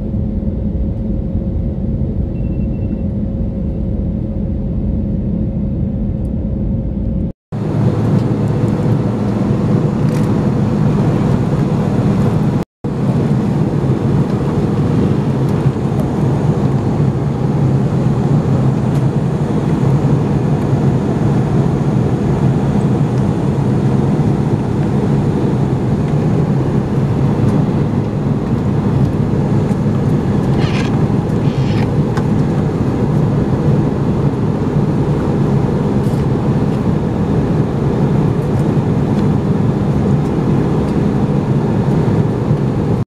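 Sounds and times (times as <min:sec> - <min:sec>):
airplane cabin drone: 0:00.0 - 0:43.0.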